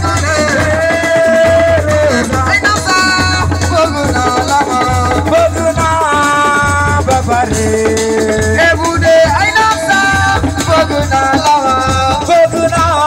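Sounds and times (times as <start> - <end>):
low drum beat: 0.0 - 13.0.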